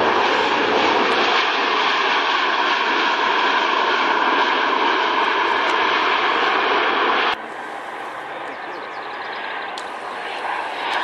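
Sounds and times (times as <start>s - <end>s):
faint jet engine whine: 0.0s - 11.0s
jet engines rushing: 0.0s - 11.0s.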